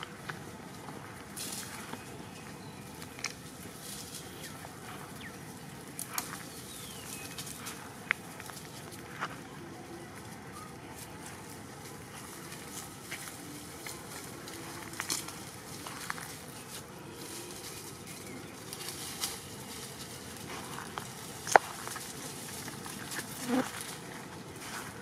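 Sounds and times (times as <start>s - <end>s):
dry leaves rustling: 0.0s - 25.0s.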